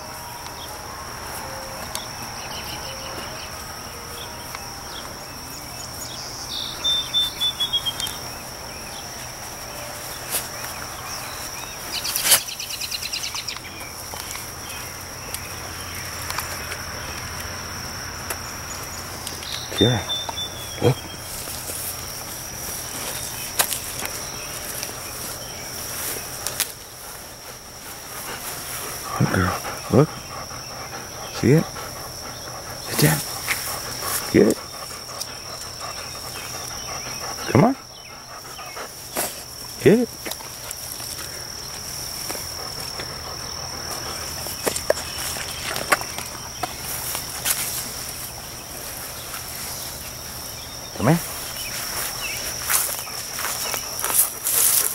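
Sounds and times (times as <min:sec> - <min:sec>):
crickets chirping: 0:00.0 - 0:54.9
insects trilling: 0:00.0 - 0:54.9
leaves rustling: 0:00.0 - 0:54.9.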